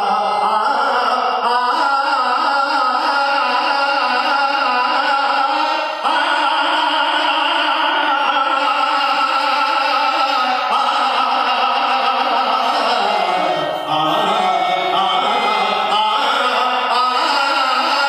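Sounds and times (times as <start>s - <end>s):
person singing long wavering notes: 0.0s - 18.0s.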